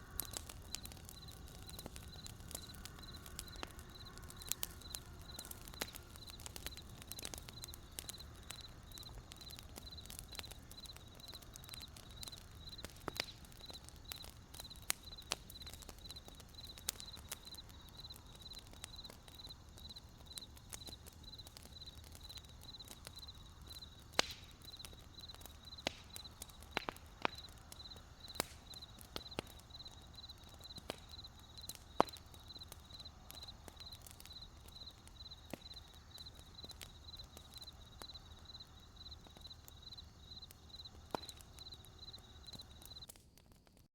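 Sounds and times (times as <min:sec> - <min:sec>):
crickets chirping: 0:00.0 - 0:43.1
campfire crackling and popping: 0:00.0 - 0:43.9.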